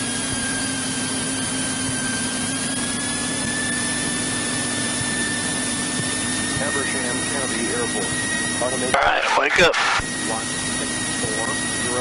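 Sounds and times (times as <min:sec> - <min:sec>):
small plane engine and propeller: 0:00.0 - 0:12.0.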